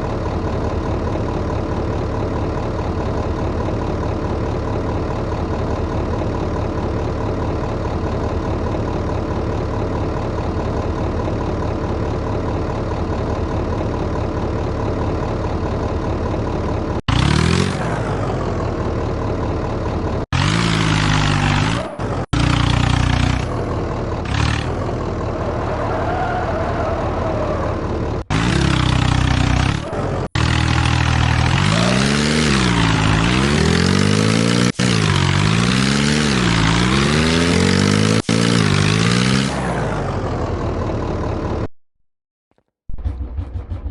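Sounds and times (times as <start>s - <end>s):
tractor engine revving: 0.0s - 41.7s, 42.9s - 43.9s.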